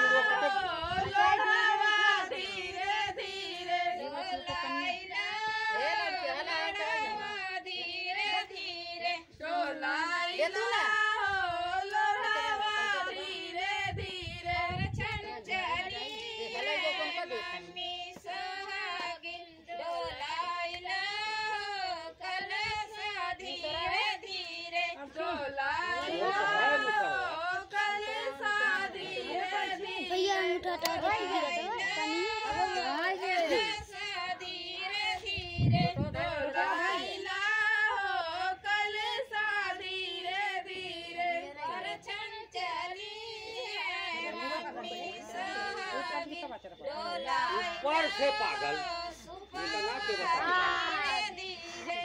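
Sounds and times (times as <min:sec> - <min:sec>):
women singing folk song: 0:00.0 - 0:52.0.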